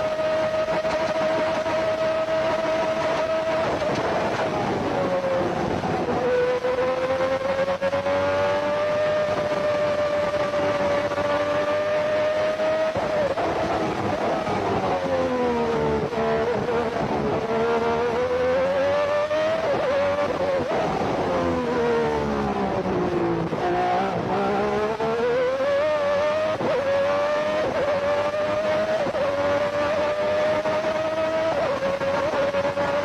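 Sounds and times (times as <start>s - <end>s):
racing car engine: 0.0s - 33.0s.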